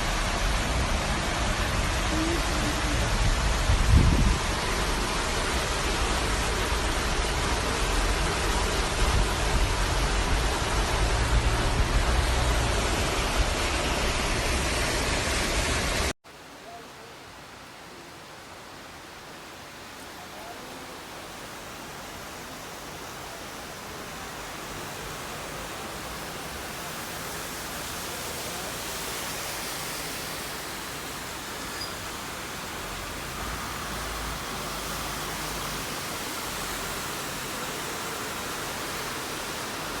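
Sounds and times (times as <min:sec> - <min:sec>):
heavy rain: 0:00.0 - 0:40.0
running water: 0:00.0 - 0:40.0.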